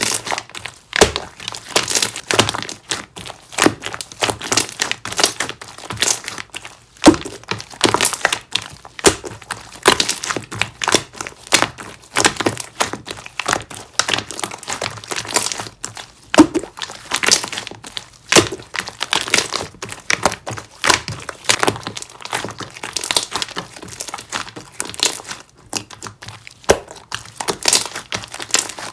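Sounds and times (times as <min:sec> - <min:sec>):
slime squished by hand: 0:00.0 - 0:28.9.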